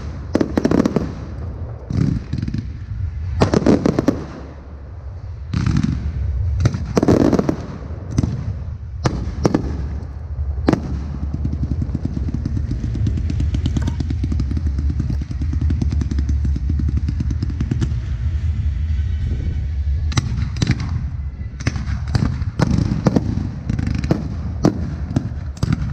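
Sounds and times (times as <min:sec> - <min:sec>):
fireworks booming: 0:00.0 - 0:25.9
fireworks crackling: 0:00.0 - 0:25.9
low rumble: 0:00.0 - 0:25.9.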